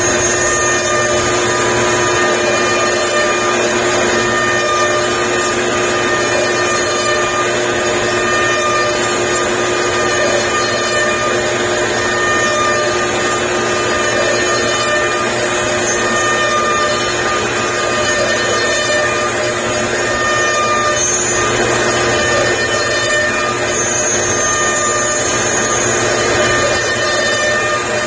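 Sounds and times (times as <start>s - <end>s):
router spindles whining: 0.0s - 28.0s.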